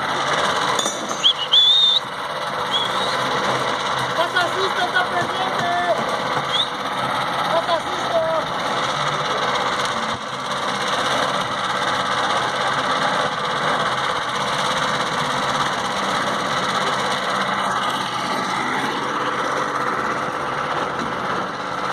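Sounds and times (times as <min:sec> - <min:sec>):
engine running steadily: 0:00.0 - 0:21.9.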